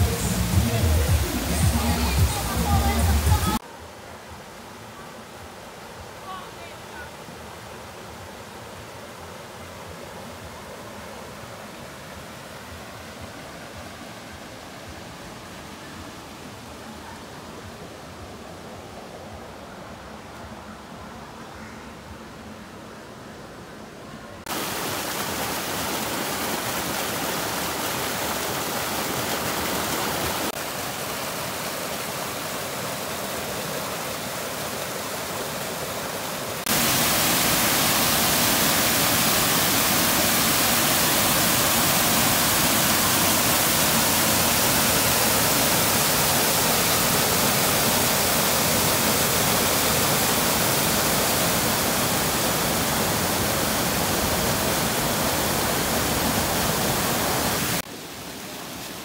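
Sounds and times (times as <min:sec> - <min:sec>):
river rushing over small waterfalls: 0:00.0 - 0:21.4, 0:23.5 - 0:59.0.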